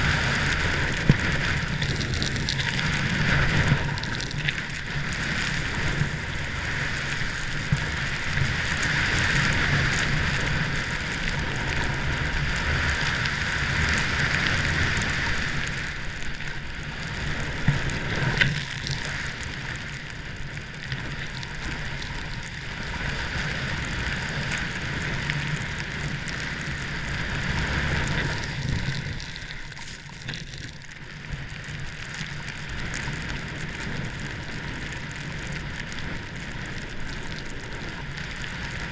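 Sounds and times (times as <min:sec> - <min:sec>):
wind on microphone: 0:00.0 - 0:31.7
skis sliding on snow: 0:00.0 - 0:38.9.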